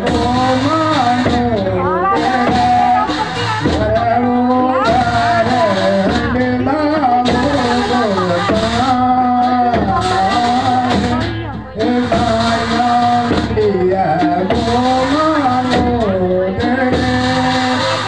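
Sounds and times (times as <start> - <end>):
hand drums: 0.0 - 18.0
person singing wavering melody: 0.0 - 18.0.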